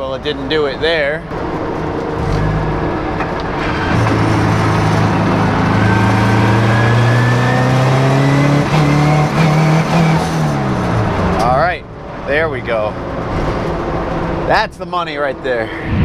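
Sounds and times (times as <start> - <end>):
car engine accelerating hard: 1.3 - 14.6.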